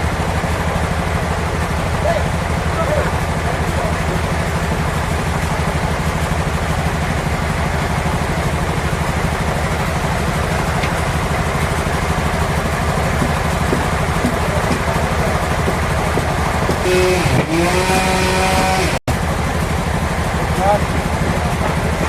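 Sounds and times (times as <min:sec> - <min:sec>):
engine running with pulsing hum: 0:00.0 - 0:22.0.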